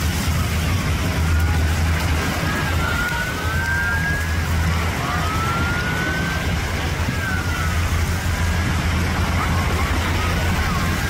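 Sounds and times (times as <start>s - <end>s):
powerboat engines rumbling: 0.0s - 11.0s
siren wailing: 0.0s - 11.0s.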